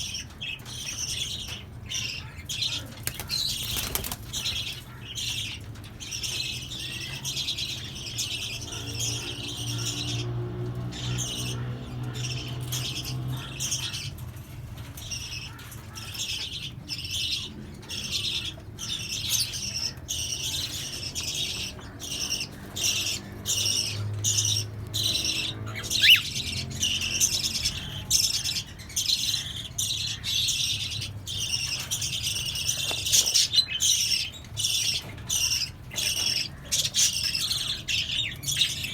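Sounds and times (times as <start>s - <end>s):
birds chattering and squawking: 0.0s - 38.9s.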